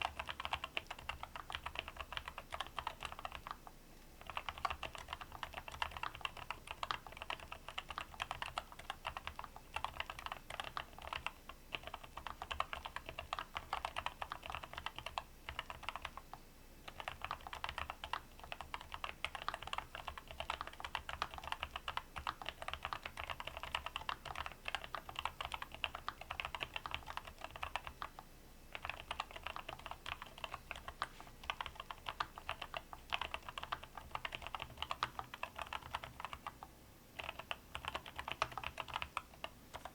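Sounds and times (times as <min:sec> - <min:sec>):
fast keyboard typing: 0:00.0 - 0:03.6, 0:04.2 - 0:16.3, 0:16.9 - 0:39.9.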